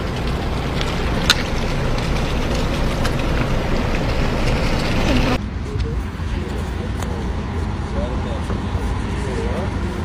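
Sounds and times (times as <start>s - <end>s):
car and lorry engines idling: 0.0s - 10.0s.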